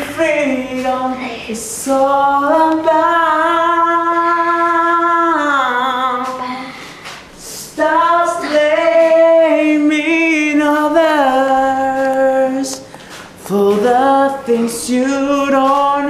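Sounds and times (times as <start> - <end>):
man singing unaccompanied: 0.0 - 6.6, 7.4 - 16.0.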